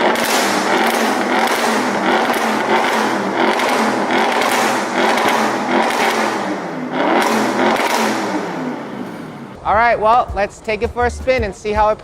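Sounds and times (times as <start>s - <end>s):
car engine revving: 0.0s - 9.6s
exhaust crack: 0.0s - 11.1s.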